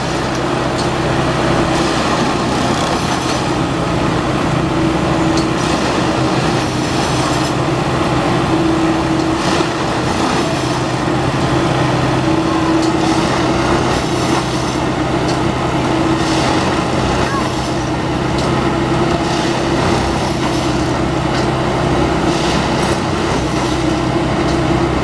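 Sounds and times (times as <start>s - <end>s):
high hydraulic whine: 0.0s - 25.0s
machine engine and hydraulics running: 0.0s - 25.0s.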